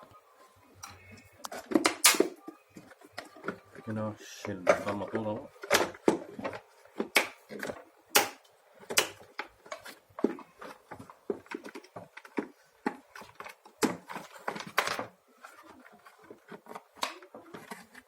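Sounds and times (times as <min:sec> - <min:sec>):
plastic parts clicking and knocking: 0:00.8 - 0:18.0.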